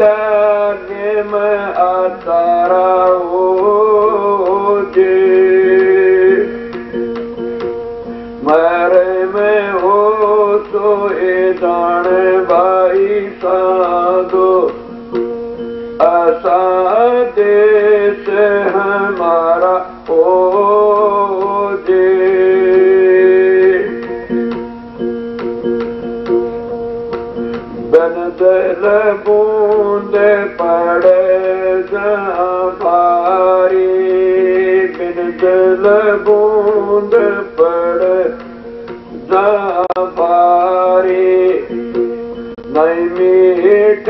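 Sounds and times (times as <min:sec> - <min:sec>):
man singing devotional song: 0:00.0 - 0:07.7, 0:08.4 - 0:15.3, 0:16.0 - 0:24.5, 0:27.9 - 0:44.0
instrumental drone: 0:00.0 - 0:44.0.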